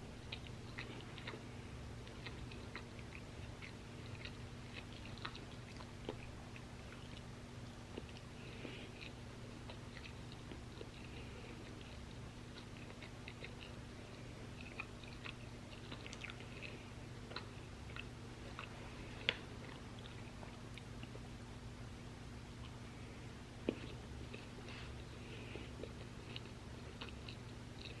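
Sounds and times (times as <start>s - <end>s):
faint low hum: 0.0s - 28.0s
crunchy chewing: 0.2s - 21.4s, 23.6s - 28.0s.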